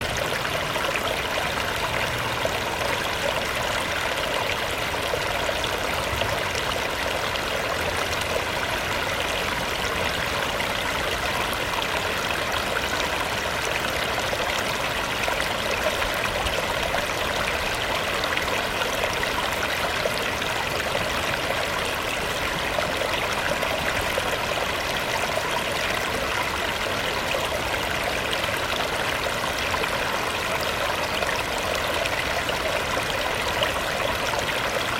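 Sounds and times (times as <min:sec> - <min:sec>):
river water babbling over rocks: 0:00.0 - 0:34.9.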